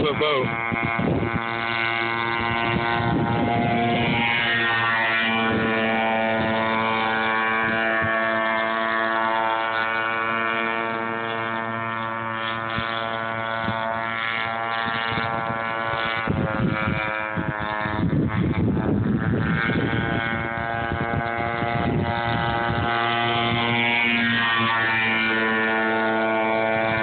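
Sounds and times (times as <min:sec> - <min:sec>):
model boat motor whining: 0:00.0 - 0:27.0.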